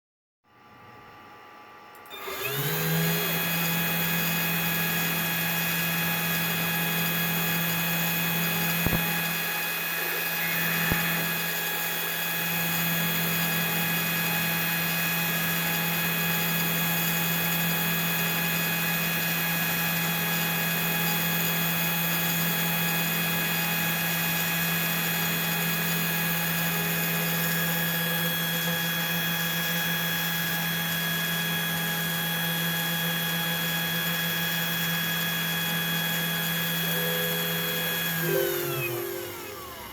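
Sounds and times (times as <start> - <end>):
router spindle motor whine: 2.0 - 39.9.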